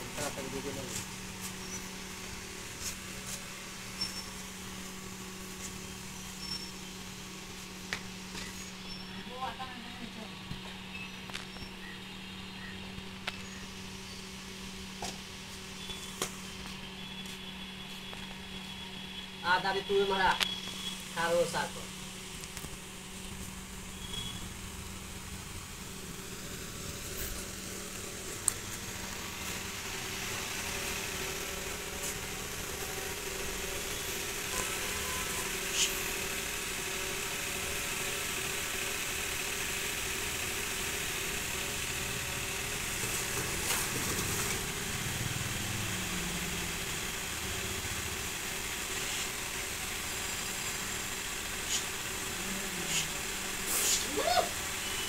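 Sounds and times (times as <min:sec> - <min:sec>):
outdoor hum and hiss: 0:00.0 - 0:55.0.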